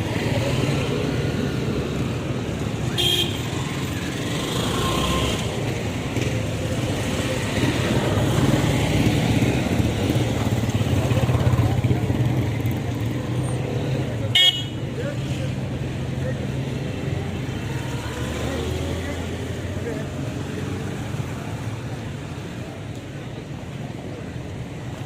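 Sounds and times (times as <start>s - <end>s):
motorcycle and car engines: 0.0s - 25.0s.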